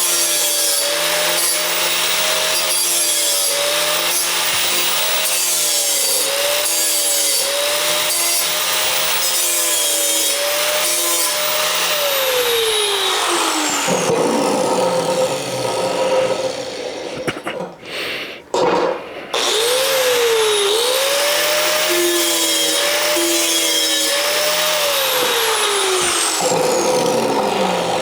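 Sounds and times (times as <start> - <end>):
angle grinder grinding steel: 0.0 - 17.3, 19.3 - 28.0.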